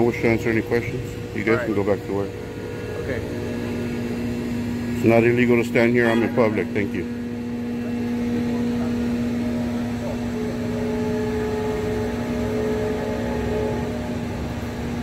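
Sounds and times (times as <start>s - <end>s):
higher tone: 0.0s - 15.0s
mechanical hum: 0.0s - 15.0s.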